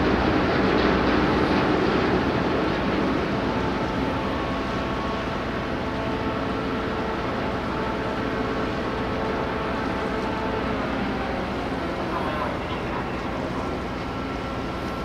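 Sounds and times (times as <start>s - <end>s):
ship engines droning: 0.0s - 15.0s
faint steady tones: 2.5s - 15.0s.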